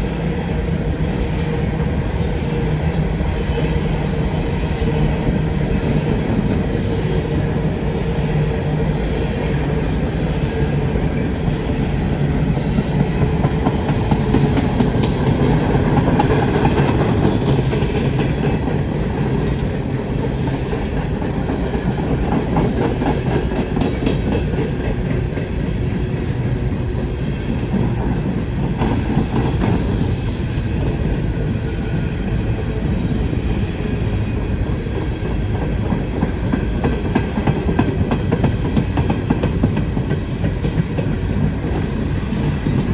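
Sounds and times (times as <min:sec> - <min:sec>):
train passing: 0:00.0 - 0:42.9.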